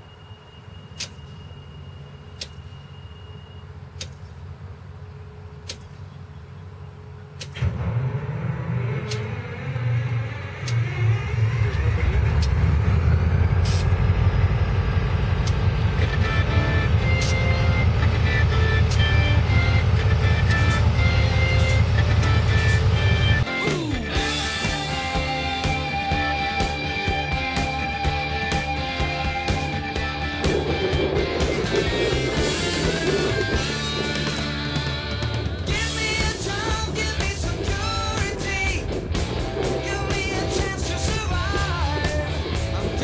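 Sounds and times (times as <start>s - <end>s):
locomotive engine starting and idling: 0.6s - 43.0s.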